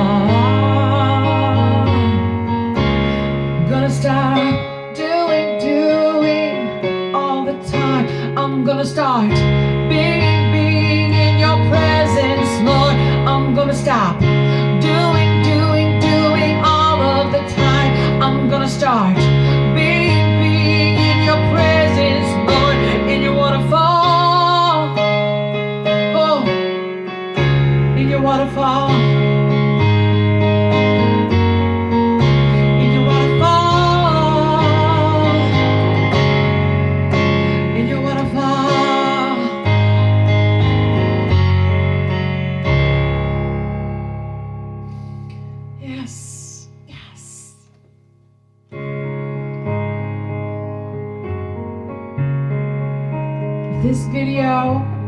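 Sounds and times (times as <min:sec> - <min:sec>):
instrumental worship music: 0:00.0 - 0:48.0.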